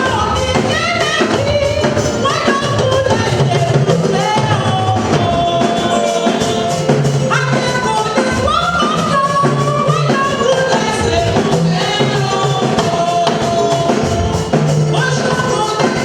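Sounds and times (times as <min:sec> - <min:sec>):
bass and percussion: 0:00.0 - 0:16.0
gospel choir singing: 0:00.0 - 0:16.0.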